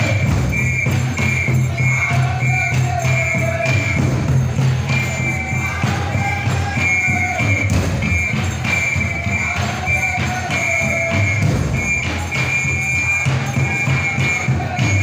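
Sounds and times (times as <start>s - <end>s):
high held tone: 0.0s - 15.0s
large drums beating: 0.0s - 15.0s.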